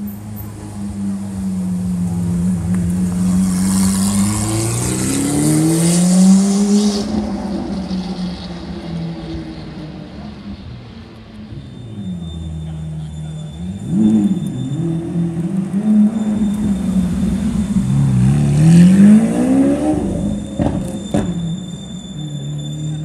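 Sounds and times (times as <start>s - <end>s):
sports car engine accelerating: 0.3s - 21.6s.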